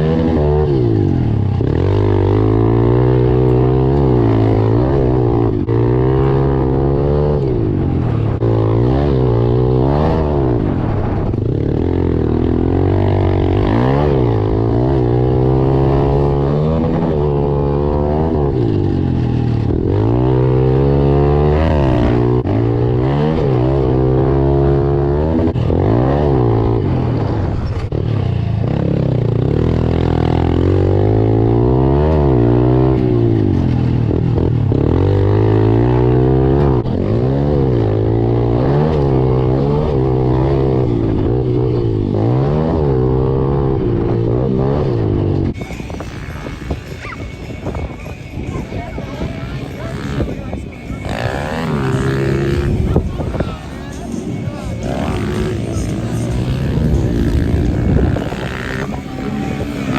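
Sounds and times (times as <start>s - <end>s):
pit bike engines revving: 0.0s - 59.9s.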